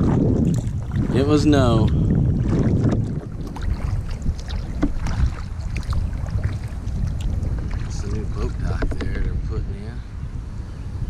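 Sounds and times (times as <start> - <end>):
paddle splashes and drips: 0.0 - 9.2
wind rumbling on microphone: 0.0 - 11.0.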